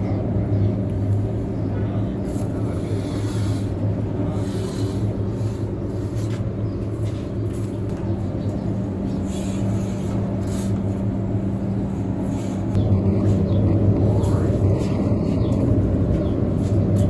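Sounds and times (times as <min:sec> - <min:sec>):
machine low hum: 0:00.0 - 0:17.0.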